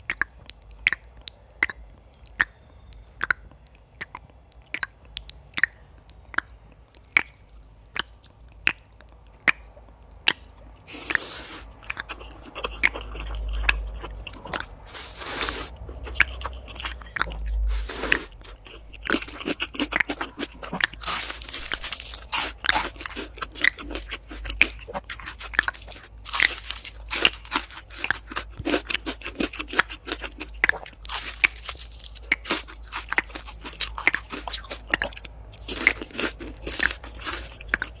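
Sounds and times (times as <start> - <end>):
crunchy food chewing: 0.0 - 38.0.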